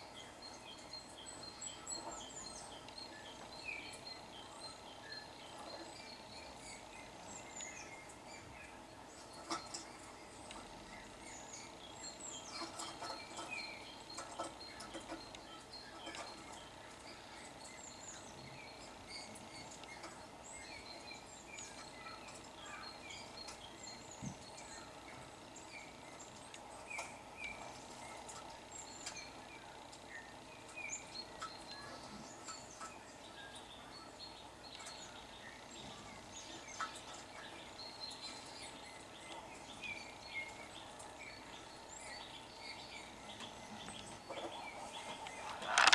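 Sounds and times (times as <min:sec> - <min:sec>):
songbirds chirping on tv: 0:00.0 - 0:45.9.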